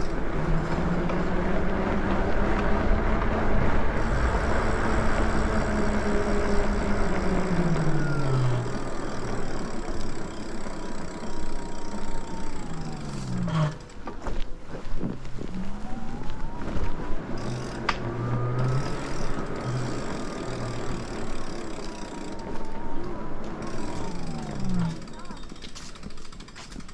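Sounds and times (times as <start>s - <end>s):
electric motor whining: 0.0s - 14.5s, 15.1s - 25.4s
tyre noise on pavement: 0.0s - 26.9s.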